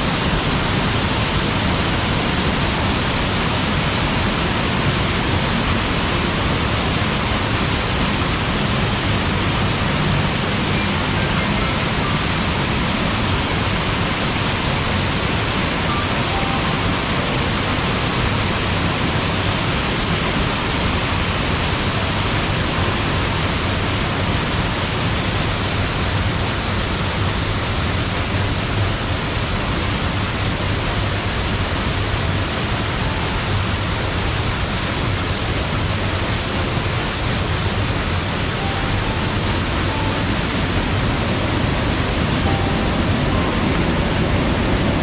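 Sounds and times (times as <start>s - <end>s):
waterfall pouring and splashing: 0.0s - 45.0s.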